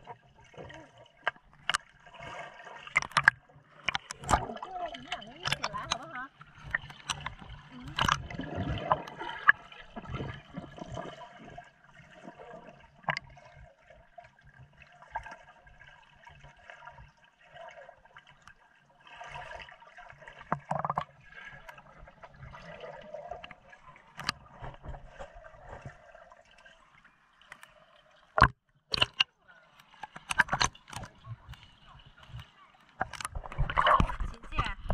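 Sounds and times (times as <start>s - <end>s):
underwater gurgling and bubbling: 0.0s - 18.4s, 19.0s - 26.9s, 33.0s - 34.9s.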